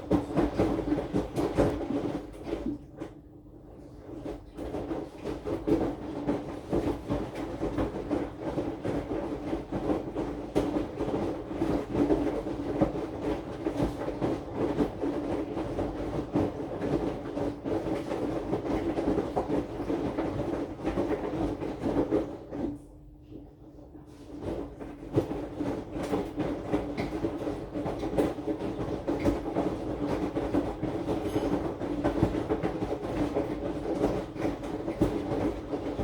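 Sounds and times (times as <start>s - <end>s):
washing machine motor hum: 0.0s - 36.0s.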